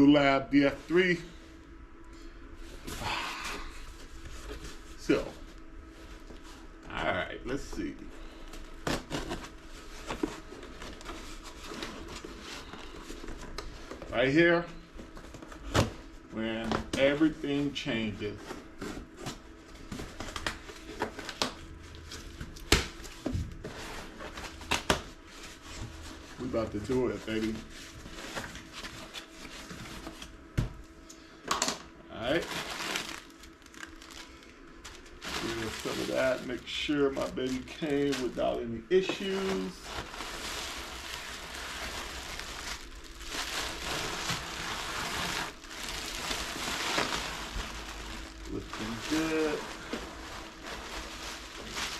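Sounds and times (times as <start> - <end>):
packaging handled by hand: 7.5 - 30.8, 31.5 - 51.9.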